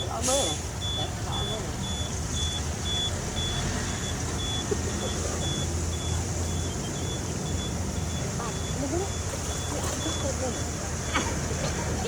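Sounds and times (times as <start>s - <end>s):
heavy machine engine rumbling: 0.0s - 12.0s.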